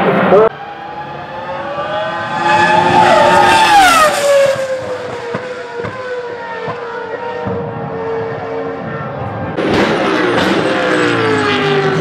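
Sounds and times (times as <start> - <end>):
race car passing: 0.0 - 12.0.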